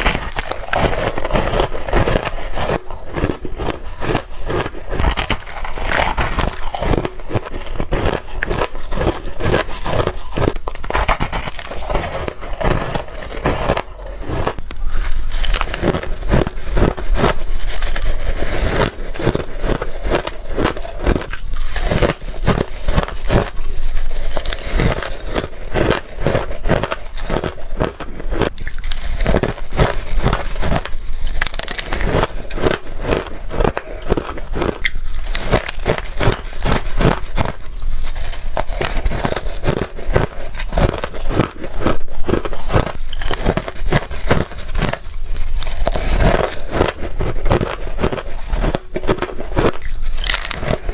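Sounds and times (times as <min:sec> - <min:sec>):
chewing shaved ice: 0:00.0 - 0:50.9.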